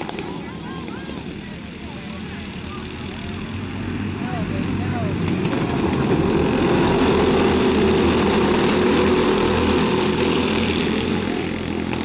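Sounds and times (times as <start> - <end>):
racing karts passing by: 0.0 - 12.0.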